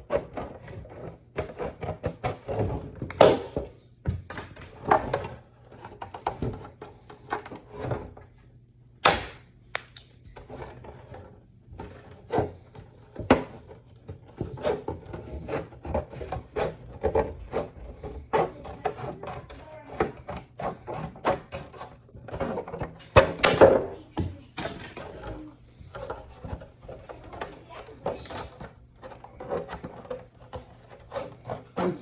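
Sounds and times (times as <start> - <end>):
plastic scraping and rubbing: 0.0 - 8.5, 9.8 - 32.0.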